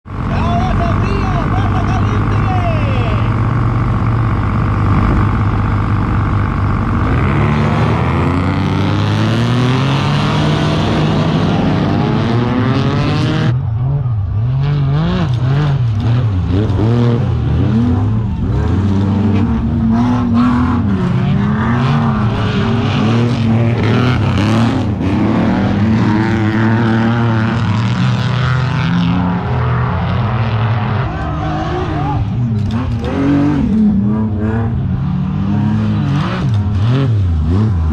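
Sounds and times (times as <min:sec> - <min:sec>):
truck engines revving: 0:00.0 - 0:37.9.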